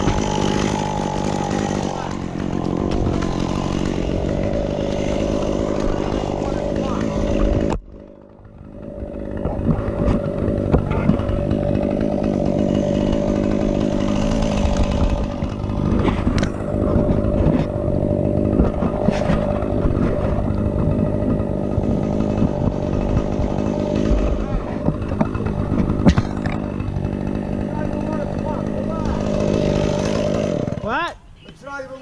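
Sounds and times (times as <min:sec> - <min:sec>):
chainsaw engine running: 0:00.0 - 0:32.0.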